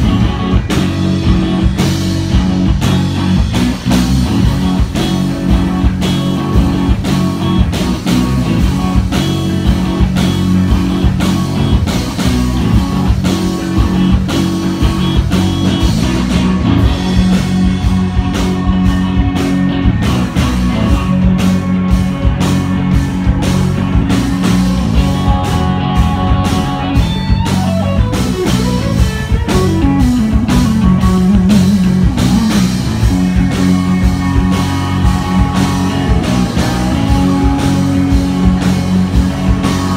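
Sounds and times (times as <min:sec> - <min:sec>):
drum kit beat: 0:00.0 - 0:39.9
electric guitars: 0:00.0 - 0:39.9
guitar sliding down in pitch: 0:00.0 - 0:39.9.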